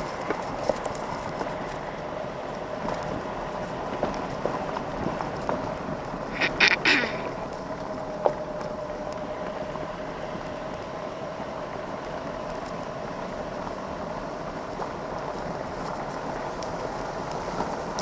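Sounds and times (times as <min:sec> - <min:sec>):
tyres on gravel: 0:00.0 - 0:18.0.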